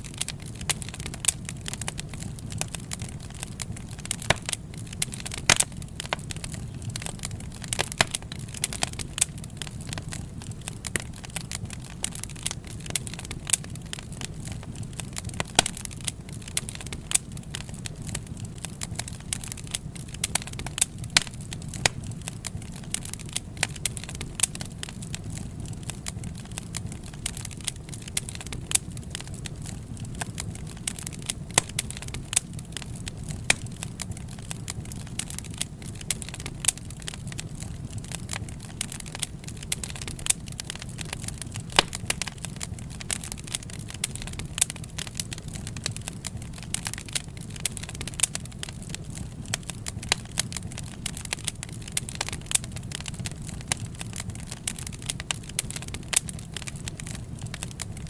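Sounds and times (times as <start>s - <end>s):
low rumble of flames: 0.0s - 58.0s
wood fire crackling: 0.0s - 58.0s.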